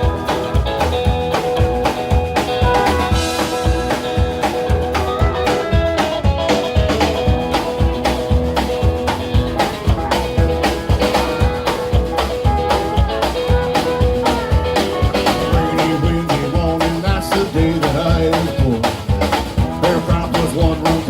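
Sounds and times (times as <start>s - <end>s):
drum kit fast beat: 0.0s - 21.0s
electric guitar: 0.0s - 21.0s.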